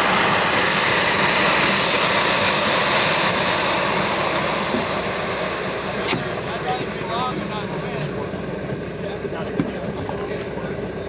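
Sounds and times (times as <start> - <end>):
high turbine whine: 0.0 - 11.0
model jet turbine running: 0.0 - 11.0.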